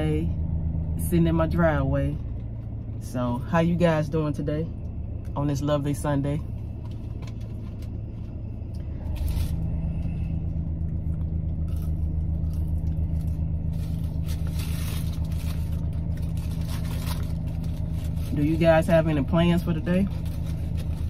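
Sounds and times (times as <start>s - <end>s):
car engine idling: 0.0s - 21.0s
steady low tone: 0.0s - 21.0s.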